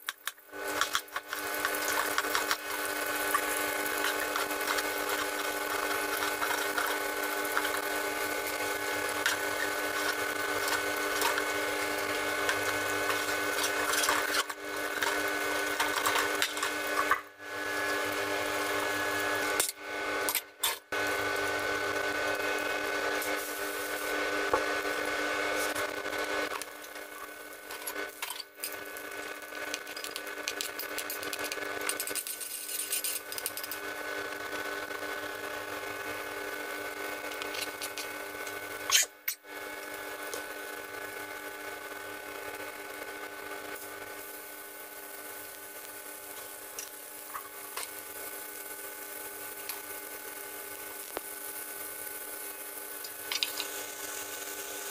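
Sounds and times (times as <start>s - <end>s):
electric motor whirring hum: 0.4s - 54.9s.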